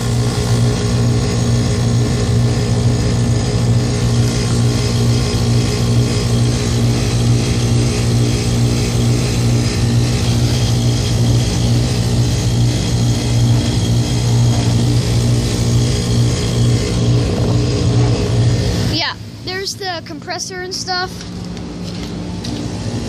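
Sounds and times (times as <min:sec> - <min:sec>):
heat pump compressor humming: 0:00.0 - 0:23.0.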